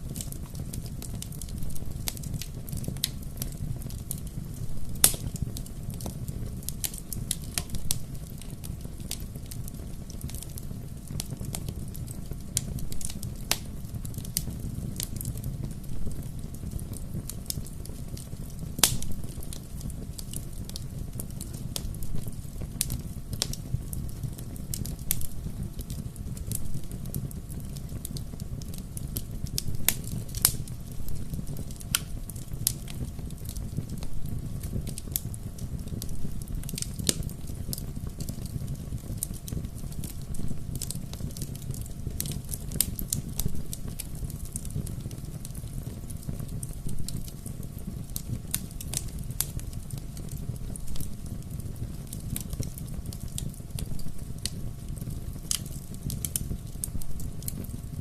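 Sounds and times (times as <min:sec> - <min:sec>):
fire popping and snapping: 0:00.0 - 0:58.0
low rumble of burning: 0:00.0 - 0:58.0.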